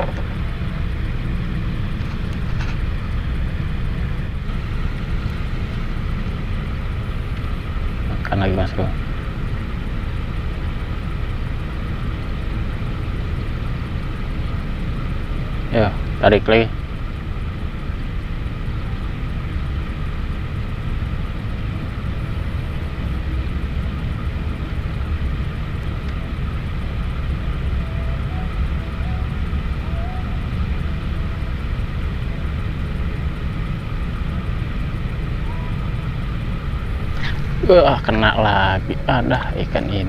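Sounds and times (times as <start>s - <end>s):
low rumble: 0.0s - 16.2s, 16.8s - 40.0s
engine drone: 0.0s - 40.0s.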